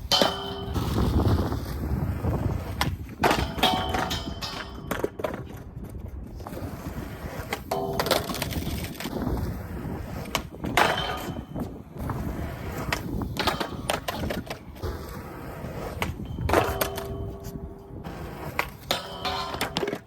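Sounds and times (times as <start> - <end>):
skateboard popping and landing: 0.0 - 20.0
skateboard wheels rolling on pavement: 0.0 - 20.0.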